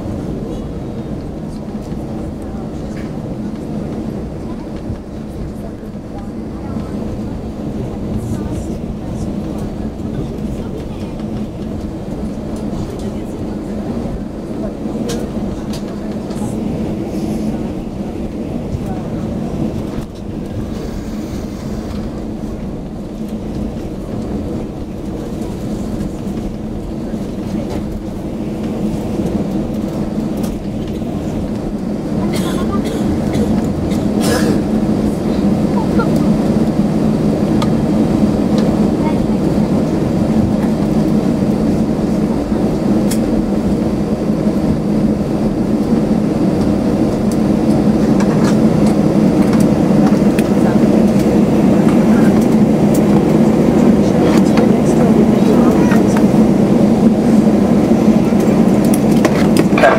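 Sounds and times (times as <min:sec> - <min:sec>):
aircraft cabin engine rumble: 0:00.0 - 0:59.9
constant hum: 0:00.0 - 0:59.9.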